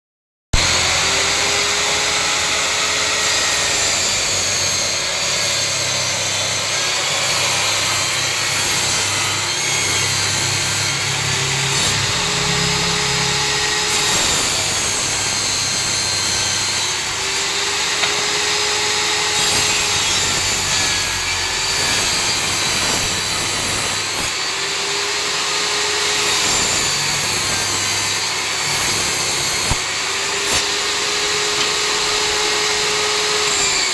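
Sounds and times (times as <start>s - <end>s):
table saw ripping wood: 0.6s - 33.9s.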